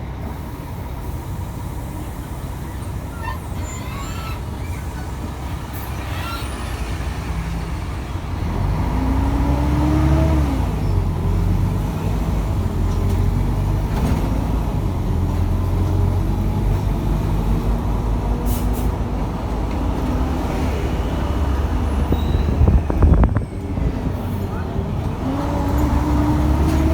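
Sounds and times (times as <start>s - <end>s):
bus diesel engine running: 0.0s - 26.9s.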